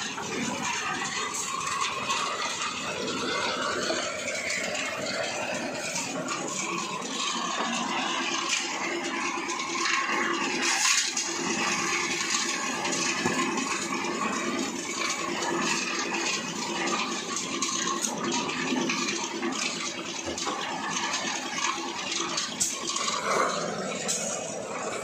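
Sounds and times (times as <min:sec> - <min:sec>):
concrete mixer running: 0:00.0 - 0:25.0.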